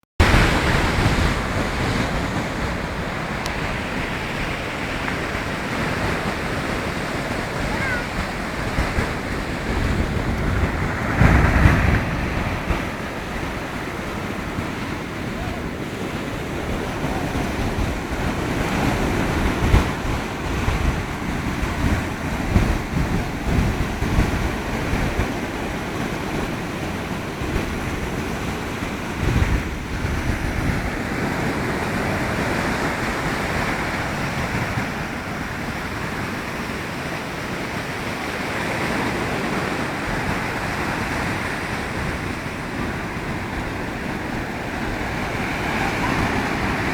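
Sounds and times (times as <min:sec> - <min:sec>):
sea waves breaking on shore: 0:00.2 - 0:46.9
wind buffeting microphone: 0:00.2 - 0:46.9.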